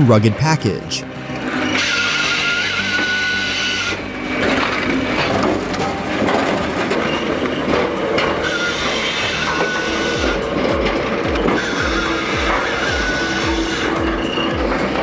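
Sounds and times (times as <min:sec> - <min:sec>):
firewood processor machinery whine: 0:00.0 - 0:15.0.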